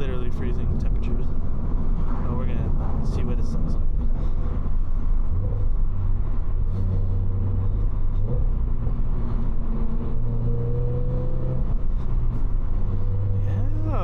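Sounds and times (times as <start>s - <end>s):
car engine revving while driving: 0.5s - 14.0s.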